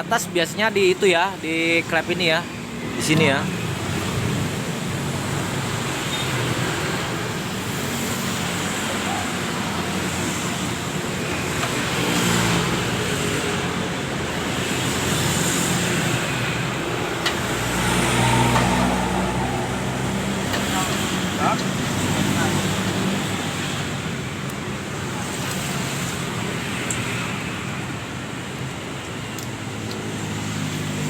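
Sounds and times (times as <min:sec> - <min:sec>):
continuous rushing noise: 0:00.1 - 0:31.0.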